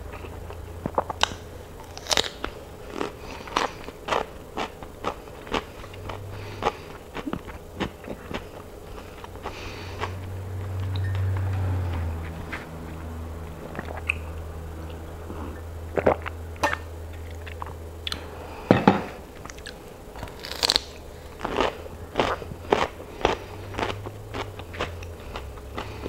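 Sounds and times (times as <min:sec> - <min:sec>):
cucumber crunching and chewing: 0:00.0 - 0:18.3, 0:19.4 - 0:26.0.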